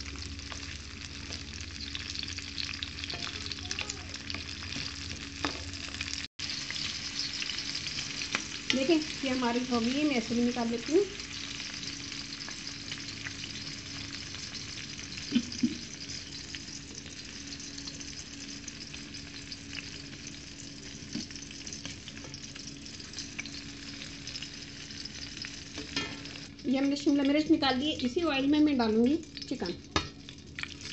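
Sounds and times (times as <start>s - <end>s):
vegetables sizzling in oil: 0.0s - 30.9s.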